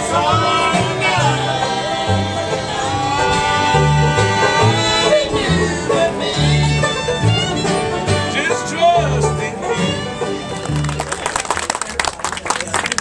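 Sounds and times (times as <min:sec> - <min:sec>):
bass line: 0:00.0 - 0:11.2
banjo picking: 0:00.0 - 0:11.3.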